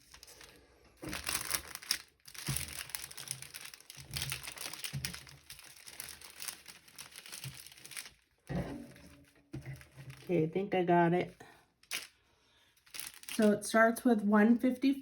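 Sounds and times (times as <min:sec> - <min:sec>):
plastic bags crinkling: 0:00.0 - 0:10.5, 0:11.7 - 0:13.9.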